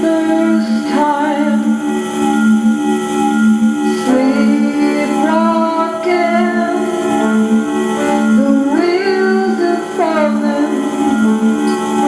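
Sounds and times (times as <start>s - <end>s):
woman singing into a microphone: 0.0s - 1.9s, 3.9s - 12.0s
low keyboard note pulsing: 0.0s - 12.0s.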